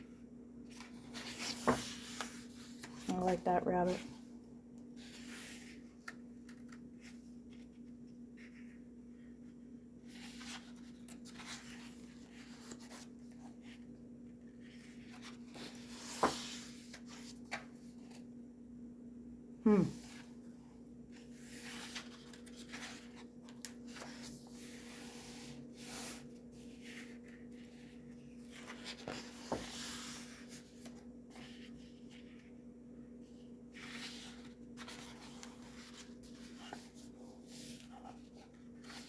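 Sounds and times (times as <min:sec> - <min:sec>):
paper pages rustling: 0:00.6 - 0:04.2, 0:04.9 - 0:18.3, 0:21.0 - 0:32.7, 0:33.4 - 0:39.0.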